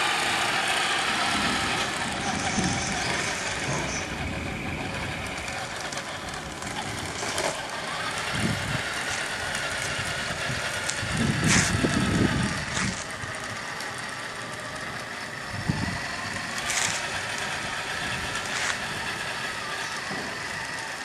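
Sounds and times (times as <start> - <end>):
low engine rumble: 0.0 - 21.0
toy tank engine sound effect: 0.0 - 21.0.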